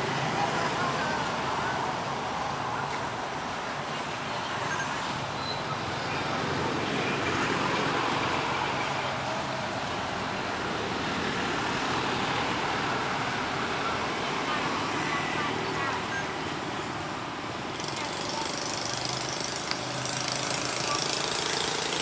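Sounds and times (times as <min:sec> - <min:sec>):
constant outdoor hiss: 0:00.0 - 0:22.0.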